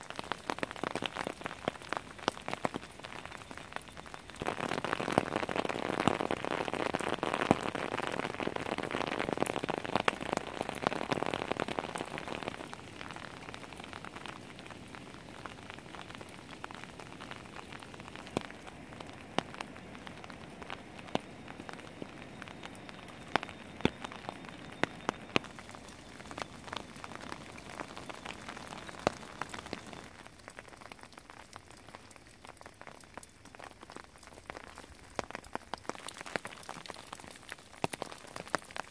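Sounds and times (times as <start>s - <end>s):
rain falling on bush: 0.0s - 38.9s
raindrops ticking: 0.0s - 38.9s.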